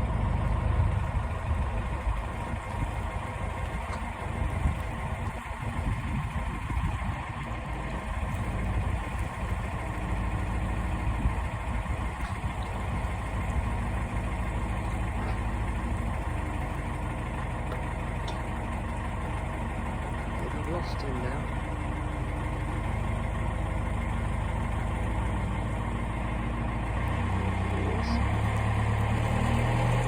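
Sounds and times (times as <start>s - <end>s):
boat engine low rumble: 0.0s - 30.0s.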